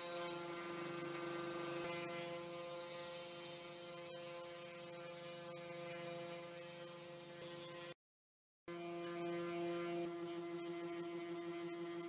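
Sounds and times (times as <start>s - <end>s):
router bit milling wood: 0.0s - 7.9s, 8.7s - 12.0s
router spindle motor whining: 0.0s - 8.0s, 8.7s - 12.0s.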